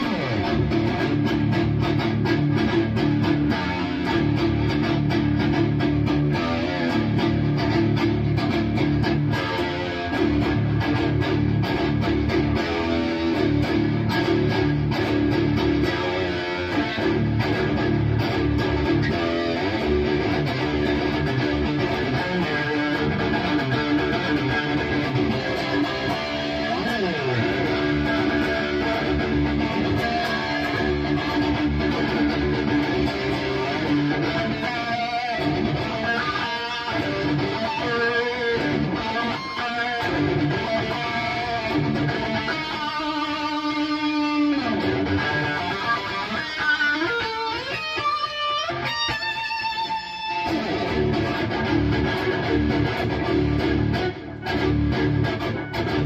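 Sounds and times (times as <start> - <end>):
distorted electric guitar riffing: 0.0 - 56.0.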